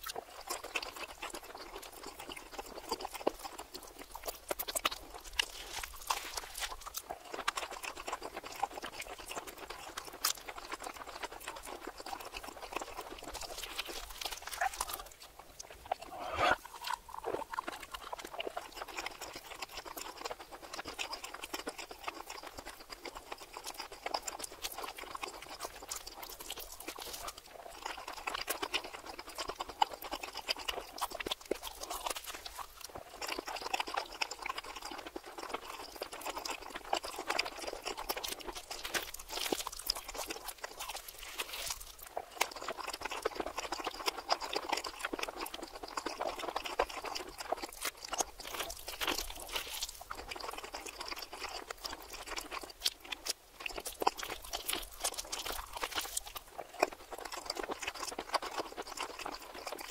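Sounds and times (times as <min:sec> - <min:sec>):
reversed eating sounds: 0:00.1 - 0:59.9.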